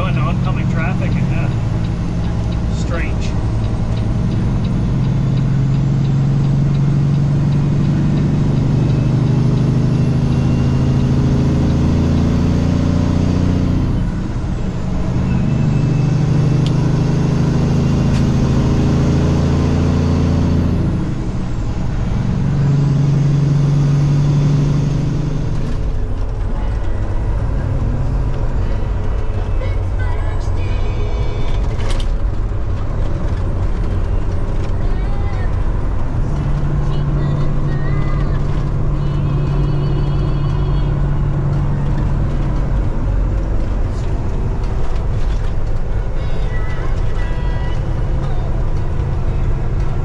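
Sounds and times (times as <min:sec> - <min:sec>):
diesel truck engine under load: 0:00.0 - 0:50.0.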